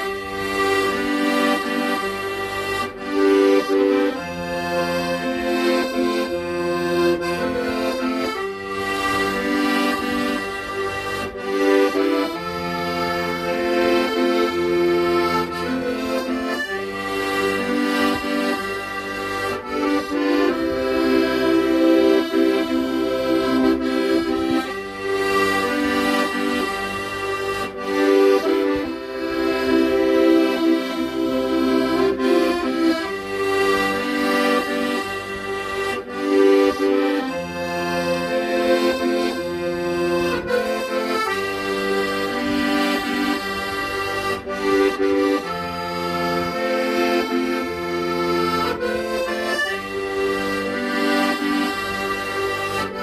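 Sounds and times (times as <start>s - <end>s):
accordion playing slow melody: 0.0s - 53.0s.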